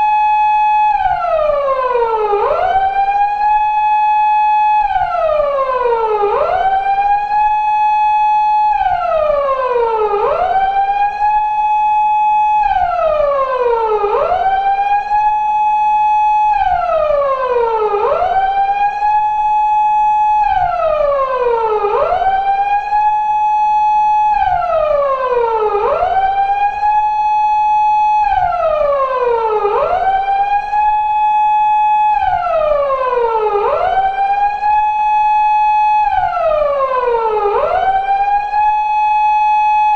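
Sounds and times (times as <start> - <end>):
police car siren wailing: 0.0 - 39.9.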